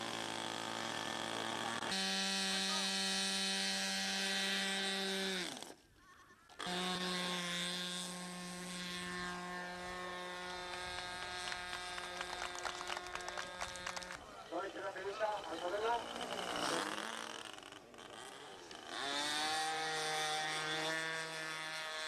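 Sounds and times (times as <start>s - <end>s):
model airplane engine running: 0.0s - 5.8s, 6.5s - 22.0s.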